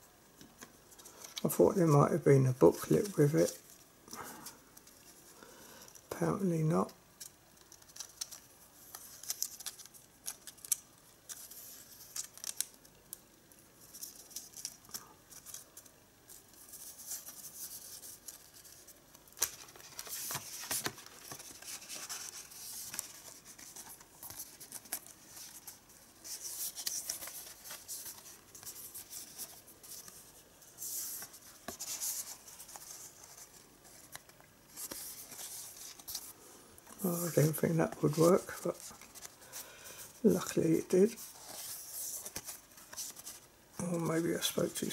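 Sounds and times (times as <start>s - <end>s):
cards scraping and rustling: 2.7s - 6.0s, 6.8s - 13.1s, 13.8s - 44.0s.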